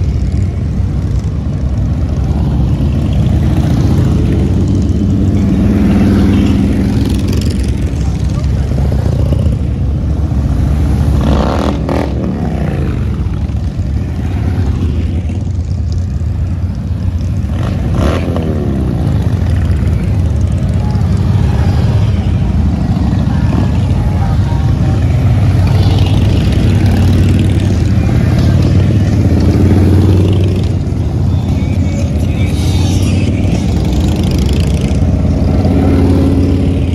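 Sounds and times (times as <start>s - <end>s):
motorcycles riding past: 0.0s - 36.9s.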